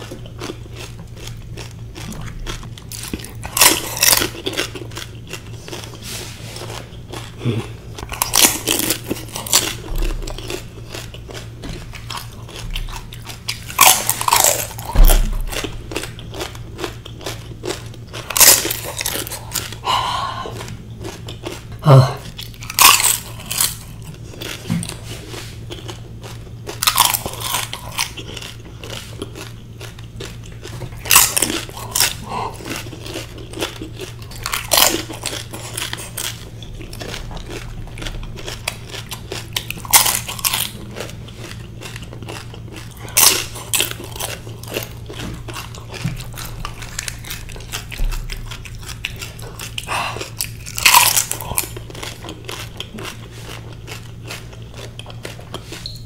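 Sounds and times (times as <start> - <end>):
crunchy food chewing: 0.0 - 56.0
faint low hum: 0.0 - 56.0.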